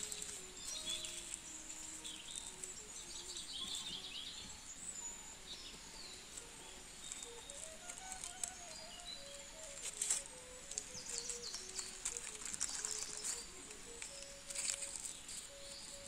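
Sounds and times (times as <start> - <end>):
birds chirping: 0.0 - 16.0
faint background music: 0.0 - 16.0.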